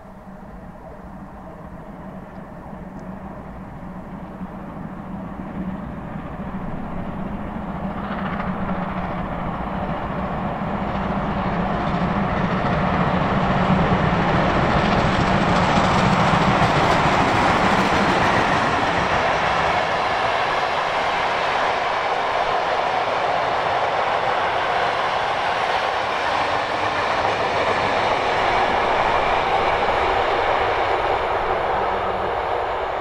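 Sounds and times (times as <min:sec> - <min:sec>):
steam train passing: 0:00.0 - 0:33.0.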